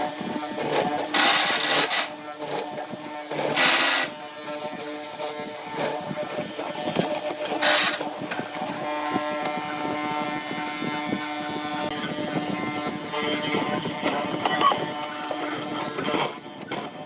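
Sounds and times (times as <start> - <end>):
power tool motor buzzing: 0.0 - 17.0.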